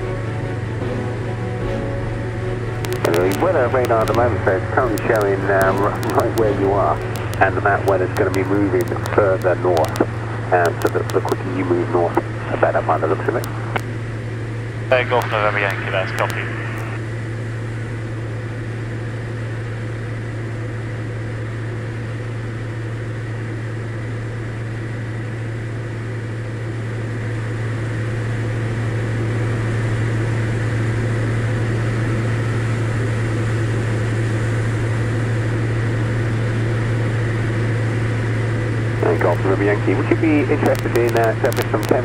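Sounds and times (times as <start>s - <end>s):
aircraft engine and propeller hum: 0.0s - 41.8s.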